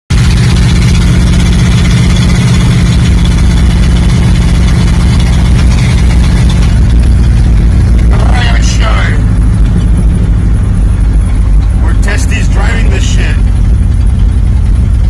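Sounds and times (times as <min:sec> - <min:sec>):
truck engine idling loudly: 0:00.1 - 0:15.0.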